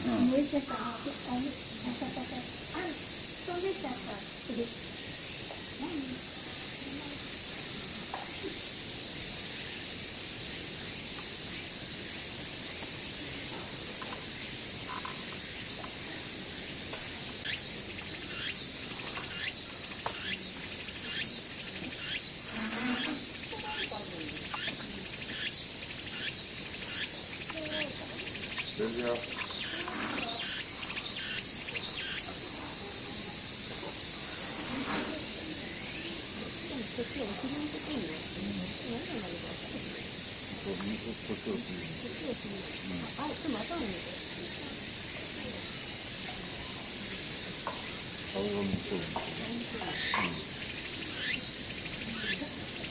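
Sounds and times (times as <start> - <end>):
cicadas calling in chorus: 0.0 - 52.9.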